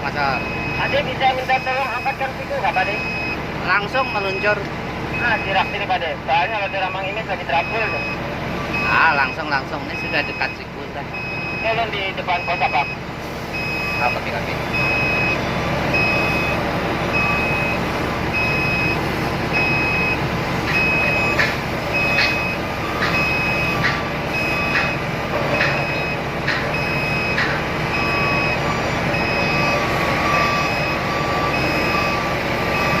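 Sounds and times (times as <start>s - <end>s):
excavator diesel engine running: 0.0s - 33.0s
warning alarm beeping: 0.2s - 33.0s.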